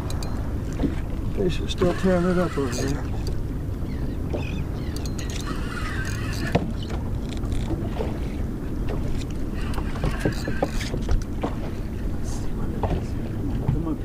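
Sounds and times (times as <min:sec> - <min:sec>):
water against boat hull: 0:00.0 - 0:14.0.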